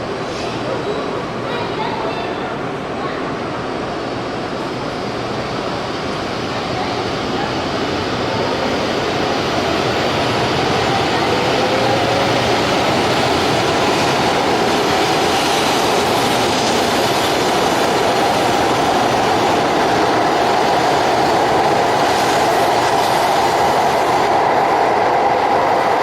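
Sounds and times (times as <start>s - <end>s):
high-speed train rushing: 0.0s - 26.0s.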